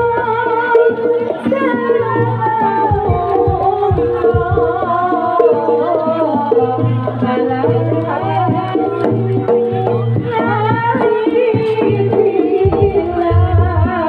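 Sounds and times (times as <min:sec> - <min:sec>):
hand drum strokes: 0:00.0 - 0:14.0.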